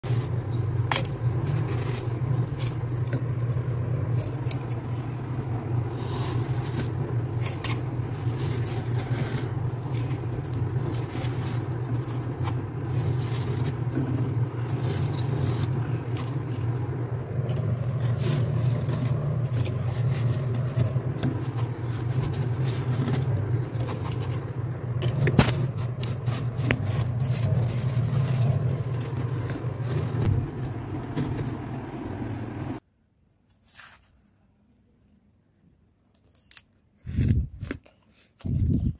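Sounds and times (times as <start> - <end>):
hand scraping freezer frost: 0.0 - 32.5
steady low hum: 0.0 - 32.8.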